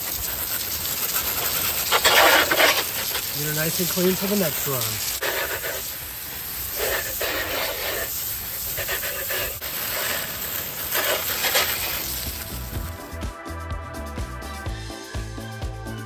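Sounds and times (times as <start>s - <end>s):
hose nozzle spraying water: 0.0s - 13.2s.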